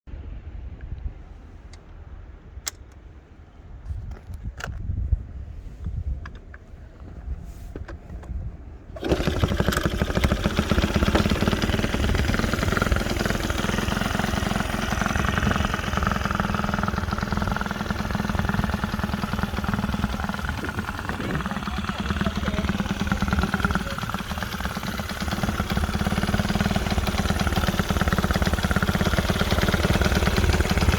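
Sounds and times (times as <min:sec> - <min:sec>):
motorcycle engine starting and idling: 0:05.6 - 0:30.9.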